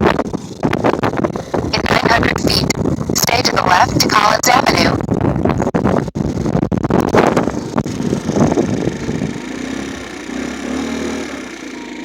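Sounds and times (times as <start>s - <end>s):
motorcycle engine: 0.0s - 3.2s, 5.0s - 12.0s
wind buffeting microphone: 0.0s - 11.6s.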